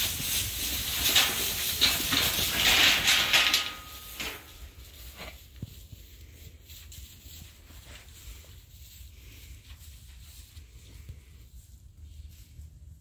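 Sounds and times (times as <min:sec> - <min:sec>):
sheep shuffling in straw: 0:00.0 - 0:13.0.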